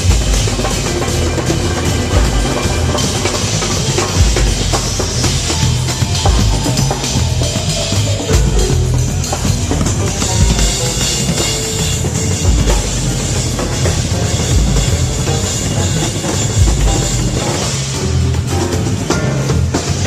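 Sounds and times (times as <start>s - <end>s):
bass drum thumps: 0.0s - 20.0s
jazz band playing: 0.0s - 20.0s
snare and cymbals: 0.0s - 20.0s.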